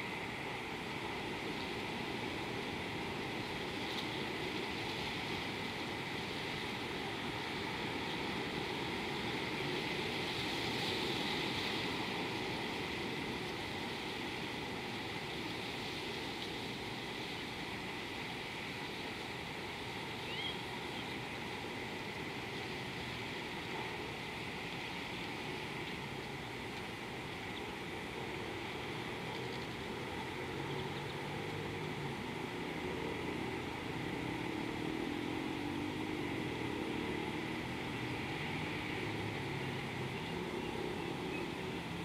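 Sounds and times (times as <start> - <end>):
faint drone: 0.0 - 42.0
outdoor background hiss: 0.0 - 42.0.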